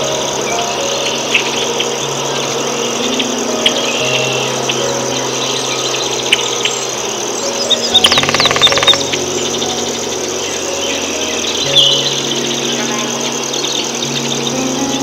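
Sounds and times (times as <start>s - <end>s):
high chirps: 0.0s - 15.0s.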